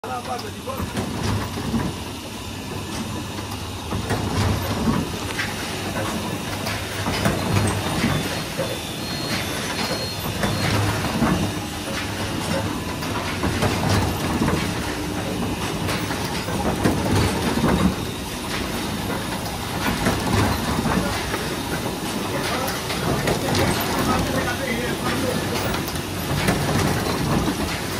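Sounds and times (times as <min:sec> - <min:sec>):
printing press clattering: 0:00.0 - 0:27.9.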